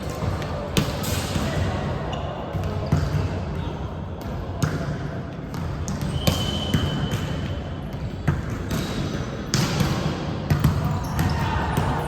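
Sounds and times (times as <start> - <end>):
volleyball hits and bounces: 0.0 - 3.6, 4.2 - 12.0
low background murmur: 0.0 - 12.0.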